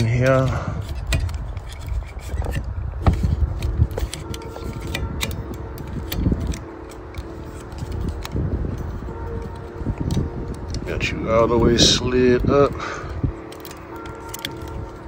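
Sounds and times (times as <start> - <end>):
plastic clicks and scraping: 0.0 - 15.0.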